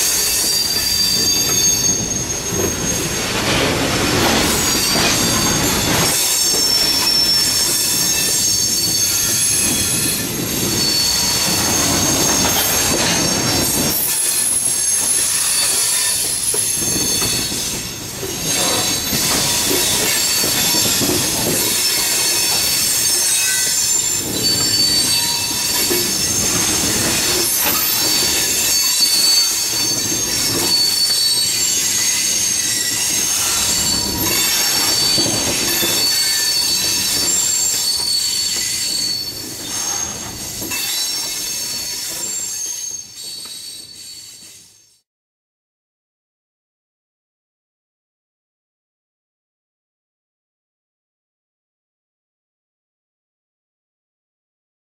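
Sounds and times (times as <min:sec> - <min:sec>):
rumble of moving train: 0:00.0 - 0:45.0
train wheels squealing: 0:00.0 - 0:45.0.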